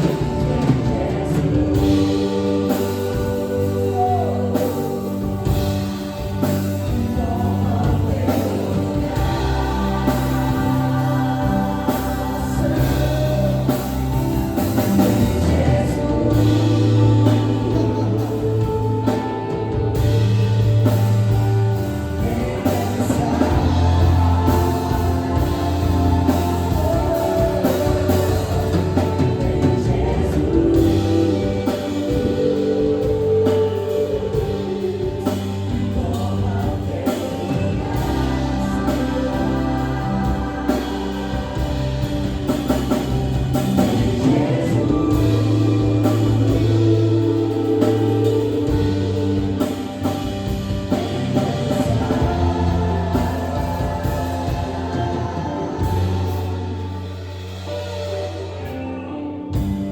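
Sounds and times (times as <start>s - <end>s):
person singing: 0.0s - 42.8s, 43.6s - 59.9s
choir singing: 0.0s - 59.7s
keyboard pads and bass: 0.0s - 59.9s.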